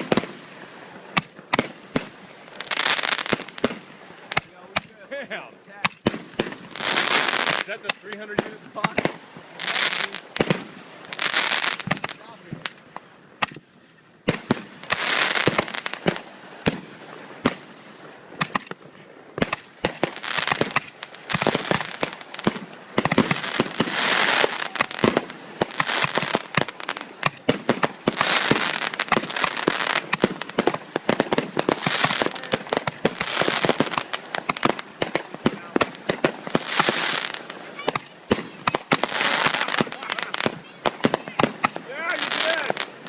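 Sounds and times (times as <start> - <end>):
fireworks crackling: 0.0 - 13.7, 14.3 - 43.0
fireworks bangs and pops: 0.0 - 43.0.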